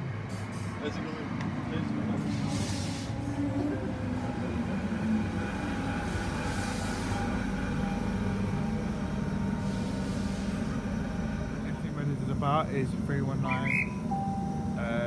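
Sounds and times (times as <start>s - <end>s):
train low hum: 0.0s - 15.0s.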